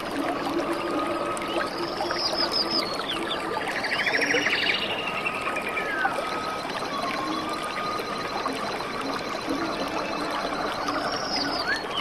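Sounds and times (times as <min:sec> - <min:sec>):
small waterfall running: 0:00.0 - 0:12.0
whistled bird notes: 0:01.4 - 0:12.0.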